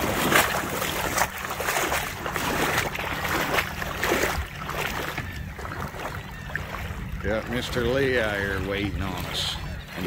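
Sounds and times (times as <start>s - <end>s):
wading through water sloshing: 0.0s - 10.0s.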